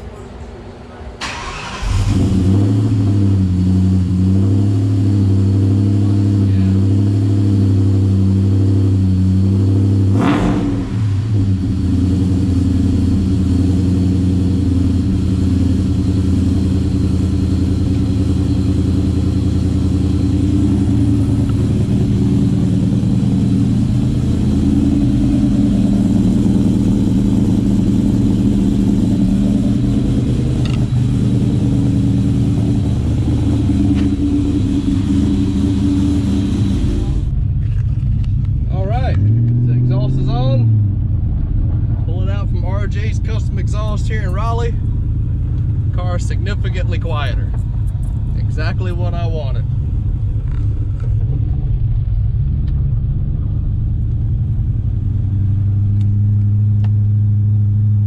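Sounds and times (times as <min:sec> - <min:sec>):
car engine running: 0:01.2 - 0:58.0.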